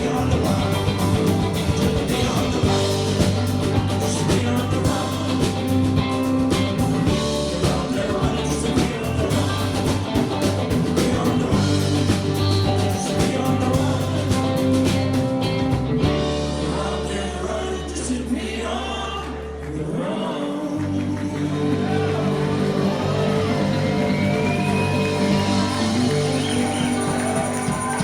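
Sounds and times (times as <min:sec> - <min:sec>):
person singing: 0:00.0 - 0:15.3, 0:16.3 - 0:28.0
rock band playing: 0:00.0 - 0:17.4, 0:21.3 - 0:28.0.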